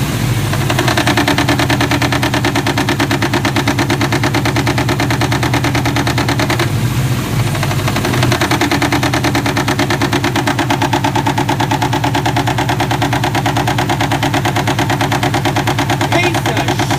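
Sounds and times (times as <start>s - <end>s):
car engine idling: 0.0s - 16.9s
rapid engine knocking: 0.0s - 16.9s.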